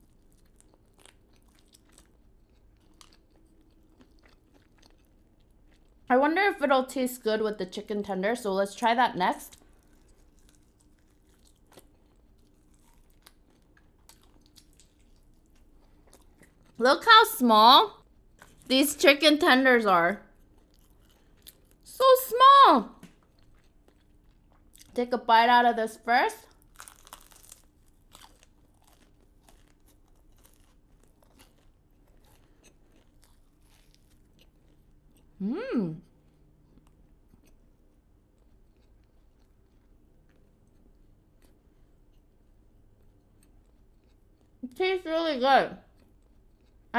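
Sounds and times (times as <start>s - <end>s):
crunchy chewing of fried chicken: 0.0s - 19.6s, 20.2s - 25.1s, 25.9s - 44.7s, 45.8s - 46.9s.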